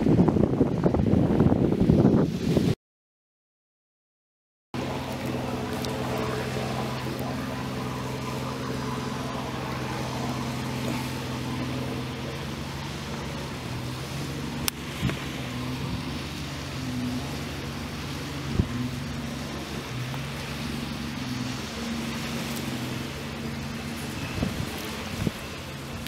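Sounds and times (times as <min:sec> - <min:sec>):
sea noise: 0:00.0 - 0:02.8, 0:04.8 - 0:26.0
wind: 0:00.0 - 0:02.8, 0:04.7 - 0:26.0
boat engine droning: 0:04.8 - 0:26.0.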